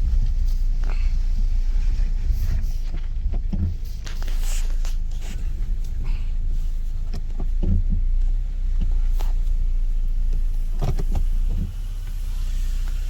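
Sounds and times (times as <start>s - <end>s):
car rumbling through snow: 0.0s - 13.0s.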